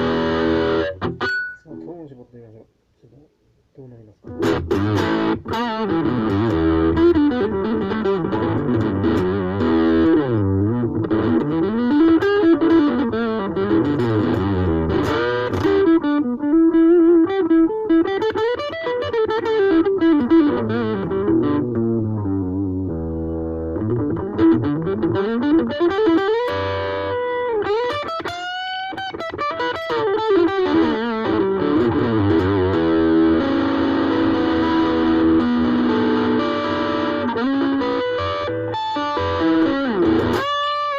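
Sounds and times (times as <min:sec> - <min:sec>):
electric guitar lead melody: 0:00.0 - 0:01.6, 0:04.3 - 0:40.9.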